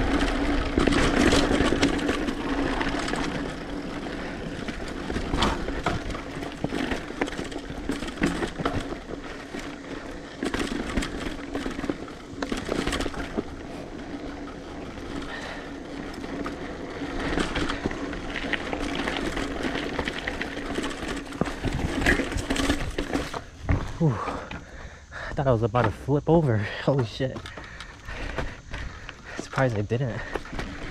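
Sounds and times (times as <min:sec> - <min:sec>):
bike knocking and rattling: 0:00.0 - 0:30.9
bike tyres rolling on dirt: 0:00.0 - 0:30.9.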